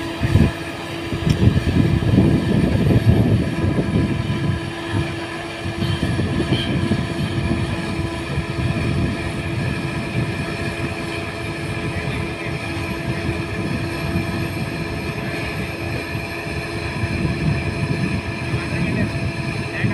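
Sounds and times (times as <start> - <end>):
excavator diesel engine under load: 0.0 - 19.9.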